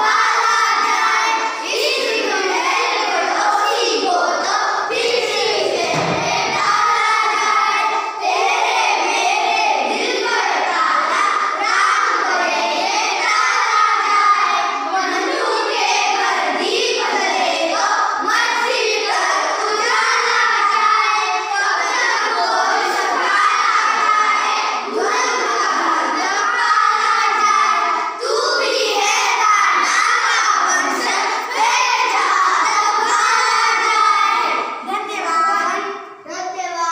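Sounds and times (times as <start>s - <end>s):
children singing in unison: 0.0s - 36.9s.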